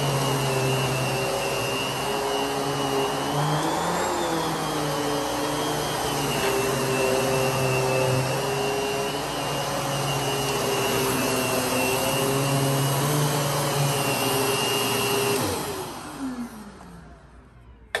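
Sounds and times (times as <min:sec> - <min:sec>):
vacuum motor winding down: 0:00.0 - 0:17.1
vacuum cleaner running: 0:00.0 - 0:17.3.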